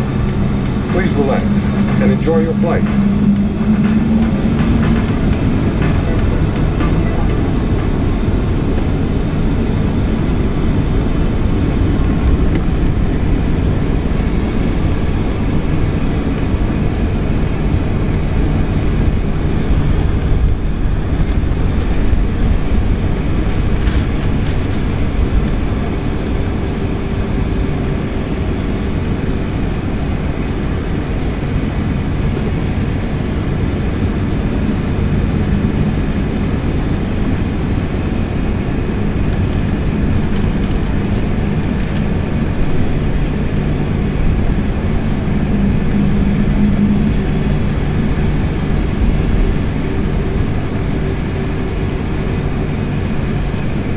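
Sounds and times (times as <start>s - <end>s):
jet engine cabin rumble: 0.0s - 53.9s.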